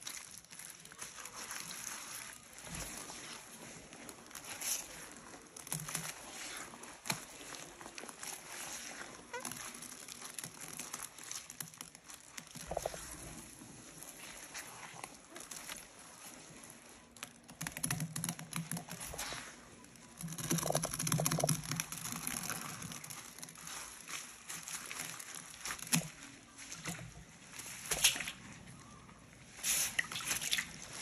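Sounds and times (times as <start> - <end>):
paste squelching by hand: 0.0 - 26.7.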